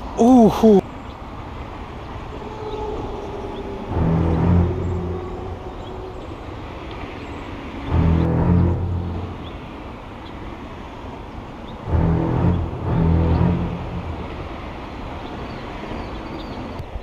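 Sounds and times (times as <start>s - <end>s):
road traffic noise: 0.0s - 17.0s
vehicle passing by: 1.7s - 16.2s.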